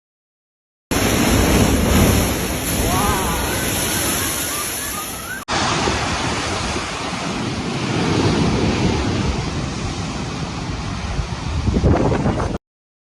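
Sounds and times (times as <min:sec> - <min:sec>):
rushing water: 0:00.9 - 0:12.6
wind battering microphone: 0:00.9 - 0:12.6.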